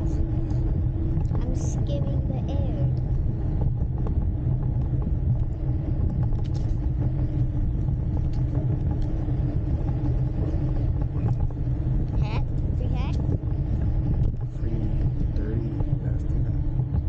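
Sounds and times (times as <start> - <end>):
electric bike rumble on concrete: 0.0 - 17.0
faint steady hum: 0.0 - 17.0.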